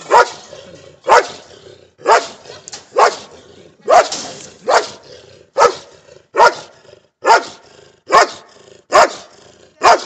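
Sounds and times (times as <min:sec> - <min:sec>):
dog barking: 0:00.0 - 0:00.5, 0:01.1 - 0:01.4, 0:02.0 - 0:05.0, 0:05.6 - 0:10.0.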